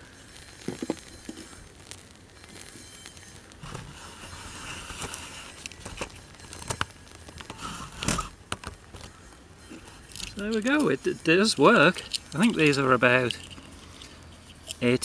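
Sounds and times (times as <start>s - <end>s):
small fire crackling: 0.0s - 15.0s.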